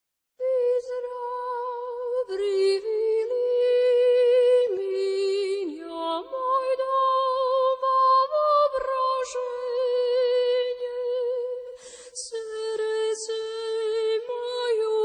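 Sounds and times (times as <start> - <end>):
woman singing unaccompanied: 0.4 - 15.0.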